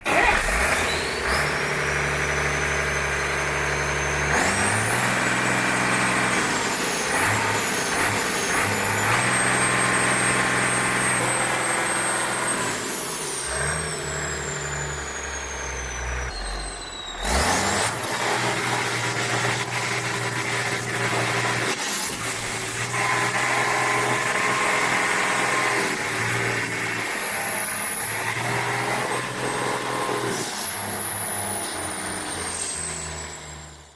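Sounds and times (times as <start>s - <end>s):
turbo whine: 0.0s - 33.7s
diesel engine revving: 0.0s - 33.9s.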